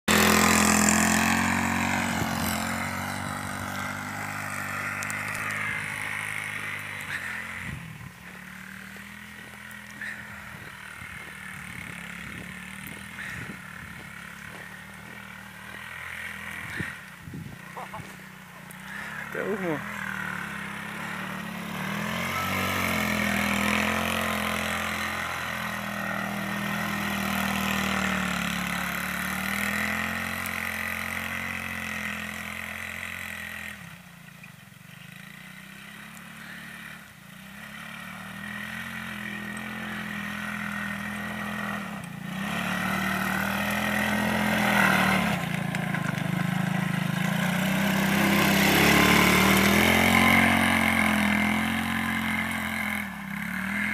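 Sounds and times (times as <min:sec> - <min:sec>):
quad engine revving: 0:00.0 - 0:53.9.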